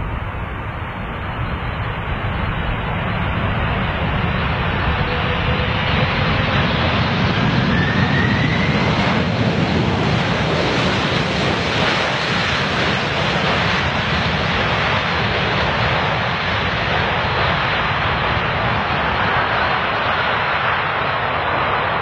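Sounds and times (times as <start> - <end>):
jet engines at takeoff thrust: 0.0 - 22.0.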